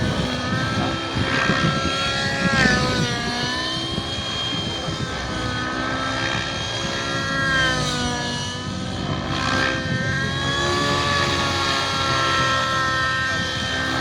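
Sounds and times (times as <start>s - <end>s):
model helicopter motor and rotor whine: 0.0s - 14.0s.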